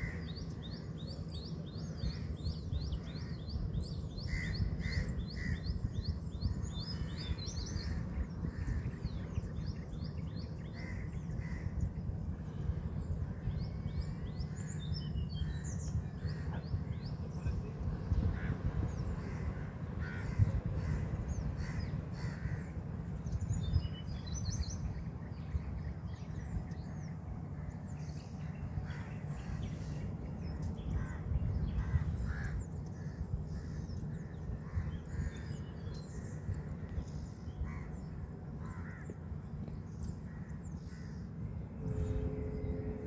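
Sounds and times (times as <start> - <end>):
bird calls: 0.0 - 43.0
steady low rumble: 0.0 - 43.0.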